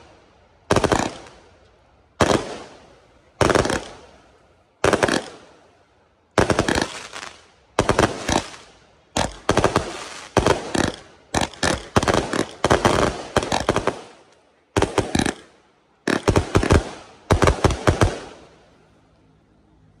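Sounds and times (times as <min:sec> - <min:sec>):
firework volleys of loud bangs: 0:00.0 - 0:18.8.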